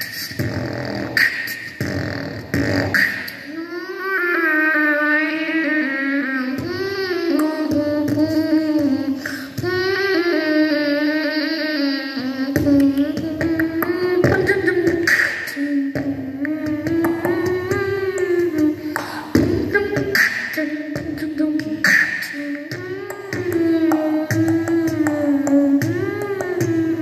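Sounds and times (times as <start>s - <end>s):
child singing into microphone: 1.8s - 27.0s.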